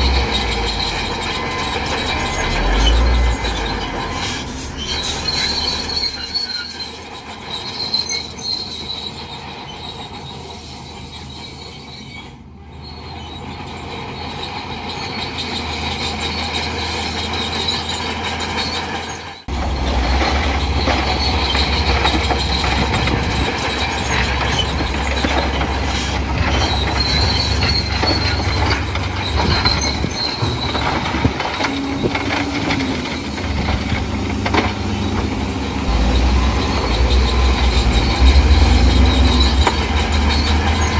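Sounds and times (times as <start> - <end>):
bulldozer diesel engine: 0.0 - 40.9
steel tracks squealing and clanking: 0.0 - 40.9.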